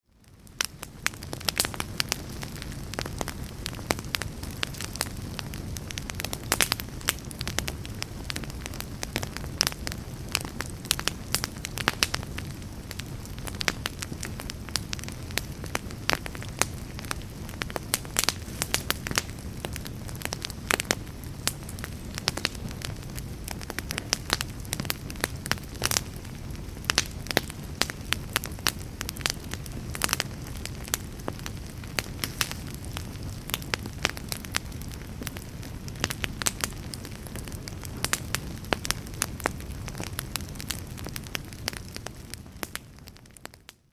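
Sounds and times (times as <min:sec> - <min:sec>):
wood fire crackling: 0:00.0 - 0:43.9
fire popping and snapping: 0:00.1 - 0:43.9.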